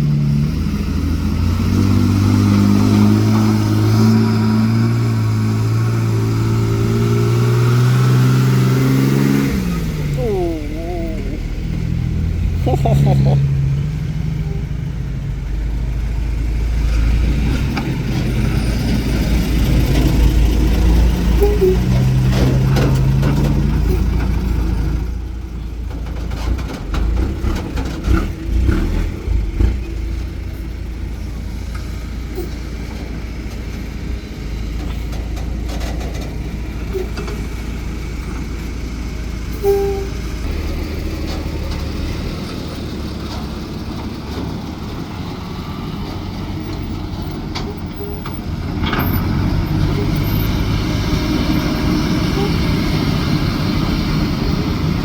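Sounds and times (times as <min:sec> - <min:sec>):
heavy engine running: 0:00.0 - 0:55.0.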